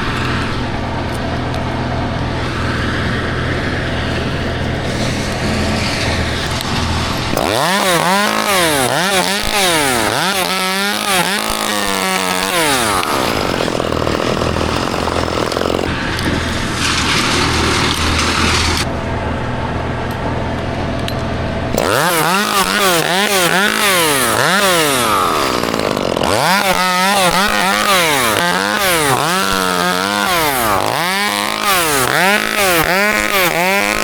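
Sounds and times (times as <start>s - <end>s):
chainsaw revving: 0.0s - 19.0s, 21.1s - 34.0s.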